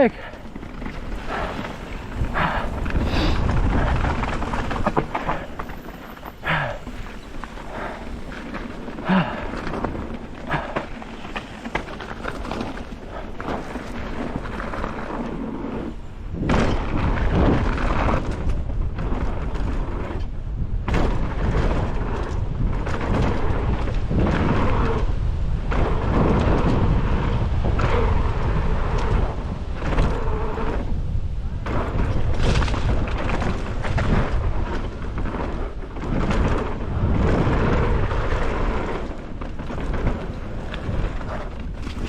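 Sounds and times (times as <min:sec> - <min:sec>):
bike rattling over rough ground: 0:00.0 - 0:42.0
wind buffeting microphone: 0:00.0 - 0:42.0.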